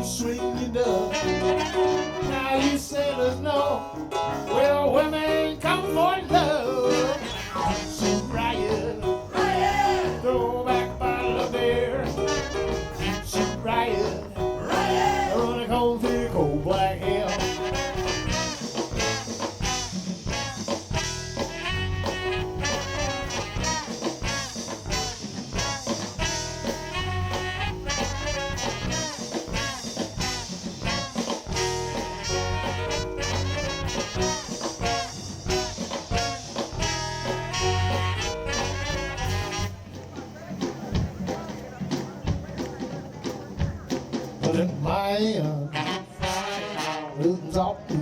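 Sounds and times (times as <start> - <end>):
horn section: 0.0 - 48.0
swing band playing: 0.0 - 48.0.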